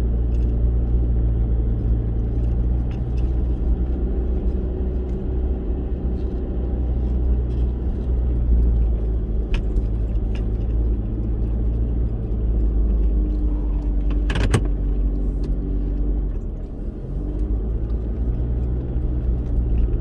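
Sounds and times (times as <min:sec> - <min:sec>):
road rumble: 0:00.0 - 0:20.0
vehicle engine drone: 0:00.0 - 0:20.0.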